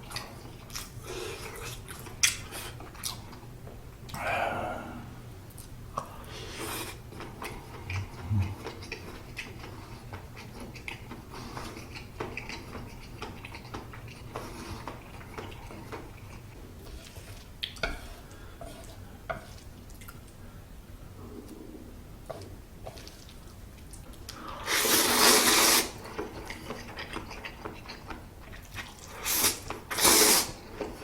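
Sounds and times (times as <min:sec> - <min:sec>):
person chewing noodles: 0:00.0 - 0:04.4, 0:05.5 - 0:20.4, 0:21.2 - 0:31.0.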